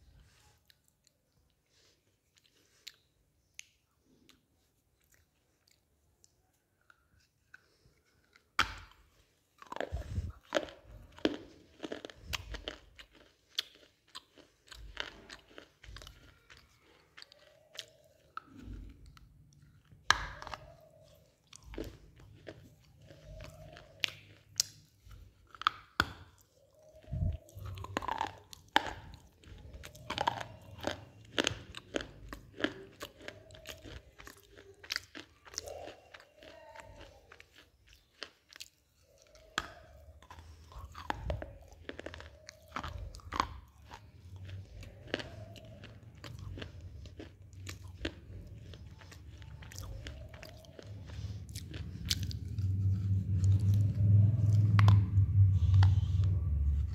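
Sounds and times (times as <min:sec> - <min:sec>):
teeth crunching stone: 0:05.0 - 0:56.9.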